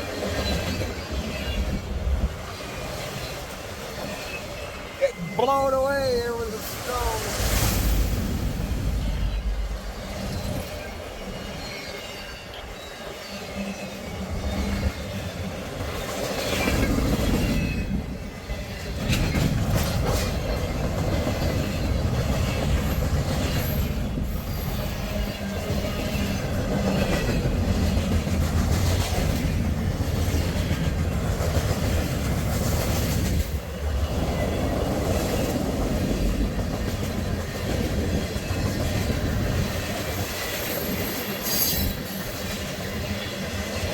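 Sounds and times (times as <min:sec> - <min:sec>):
freight train rumbling on rails: 0:00.0 - 0:43.9.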